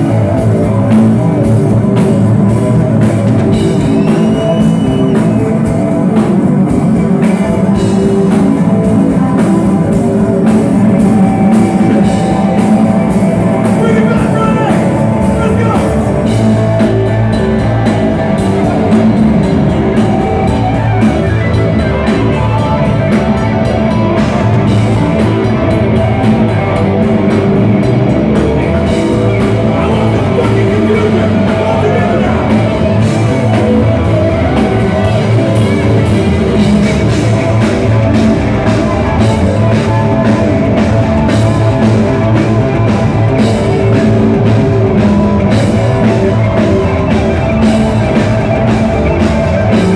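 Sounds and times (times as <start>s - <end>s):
distorted electric guitar: 0.0s - 49.9s
drum kit: 0.0s - 49.9s
electric bass: 0.0s - 49.9s.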